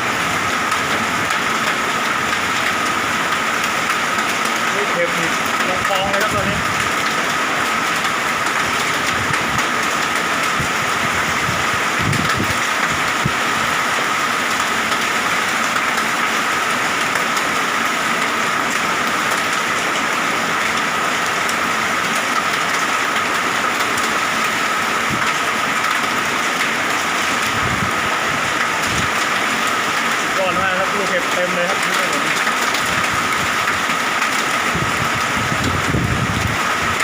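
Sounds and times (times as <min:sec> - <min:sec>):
heavy rain and hail: 0:00.0 - 0:37.0.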